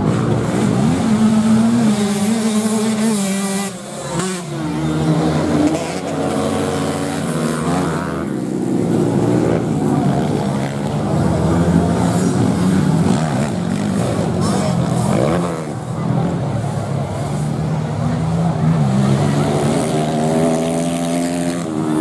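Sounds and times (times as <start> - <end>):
racing motorcycle engines running hard: 0.0 - 22.0.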